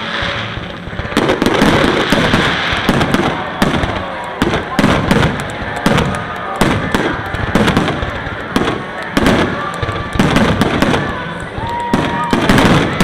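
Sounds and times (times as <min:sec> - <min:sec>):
crackling fireworks reports: 0:00.0 - 0:13.0
fireworks bursting: 0:00.0 - 0:13.0.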